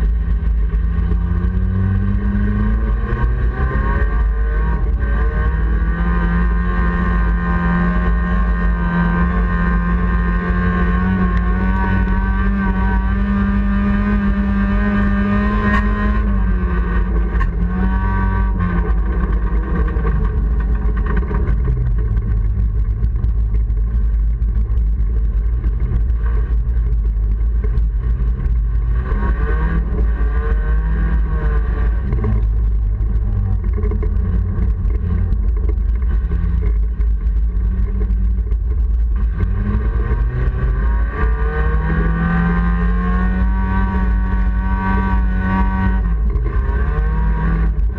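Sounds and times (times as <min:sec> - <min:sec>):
car engine revving: 0:00.0 - 0:47.9
heavy low rumble: 0:00.0 - 0:47.9.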